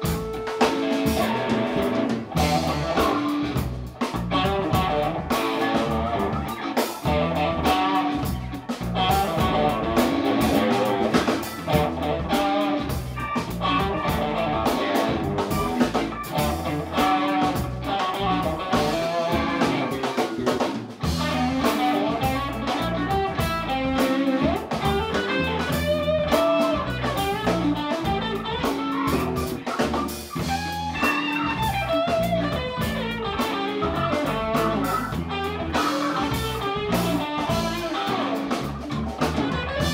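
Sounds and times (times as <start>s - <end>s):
drum kit beat: 0.0s - 39.9s
electric bass: 0.0s - 39.9s
electric guitars: 0.0s - 39.9s.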